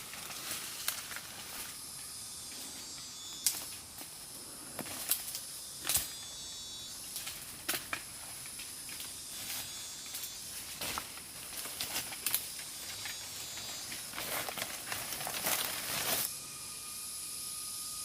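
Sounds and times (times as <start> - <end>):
insects hissing: 0.0 - 18.0.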